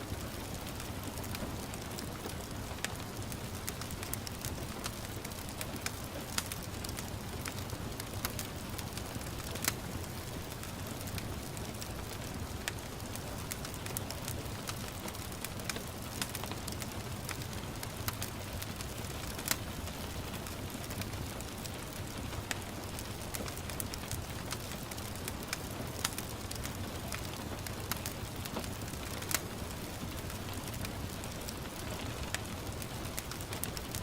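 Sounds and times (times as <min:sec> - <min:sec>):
gentle rain hiss: 0:00.0 - 0:34.0
low fire rumble: 0:00.0 - 0:34.0
wood fire crackling: 0:00.0 - 0:34.0.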